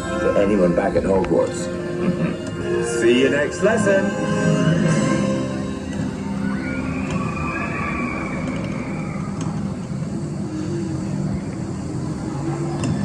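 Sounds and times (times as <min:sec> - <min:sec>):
faint high whine: 0:00.0 - 0:13.0
roller coaster rumbling on track: 0:00.0 - 0:13.0.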